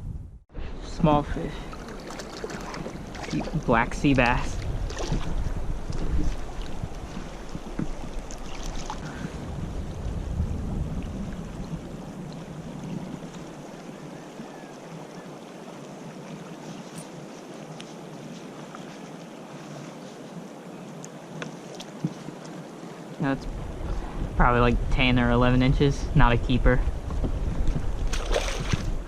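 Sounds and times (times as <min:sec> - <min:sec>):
wind rumbling on microphone: 0:00.0 - 0:29.0
water lapping around kayak: 0:00.5 - 0:24.6, 0:26.8 - 0:29.0.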